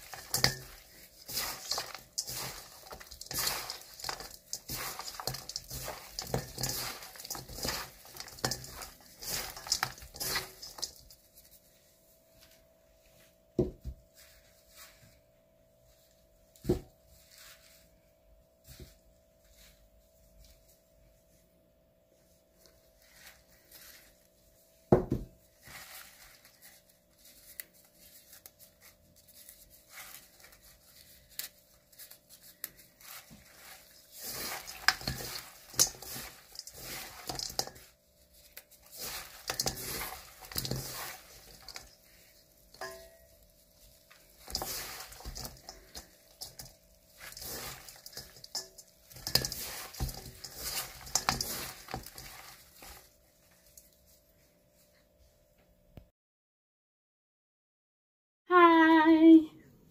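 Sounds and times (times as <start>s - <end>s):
rustling and squishing in a bowl: 0.0s - 56.0s.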